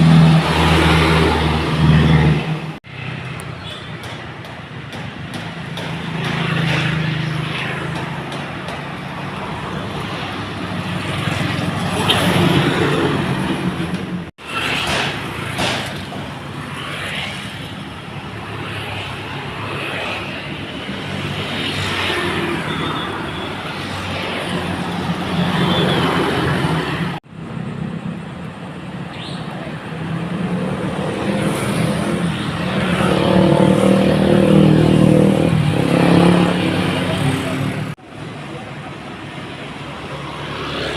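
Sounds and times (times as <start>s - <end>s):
diesel trucks passing: 0.0s - 40.9s
traffic and road noise: 0.0s - 40.9s.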